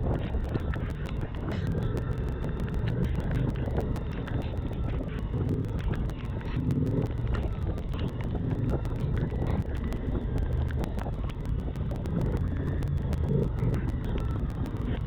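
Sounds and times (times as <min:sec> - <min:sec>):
small sharp ticks: 0:00.0 - 0:15.0.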